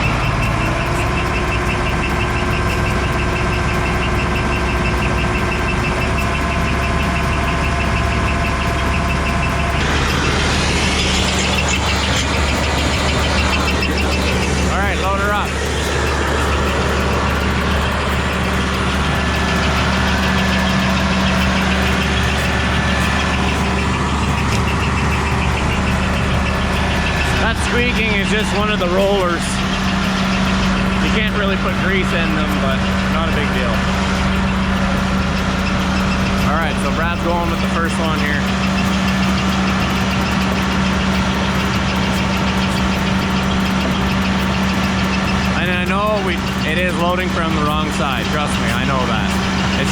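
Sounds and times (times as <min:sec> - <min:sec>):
conveyor roller squeak: 0:00.0 - 0:49.9
fast even ticking: 0:00.0 - 0:49.9
machine engine drone: 0:00.0 - 0:49.9.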